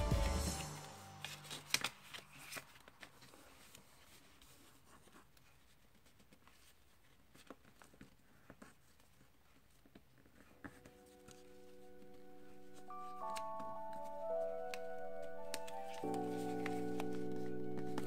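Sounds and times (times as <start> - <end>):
paper crinkling and tapping: 1.2 - 18.0.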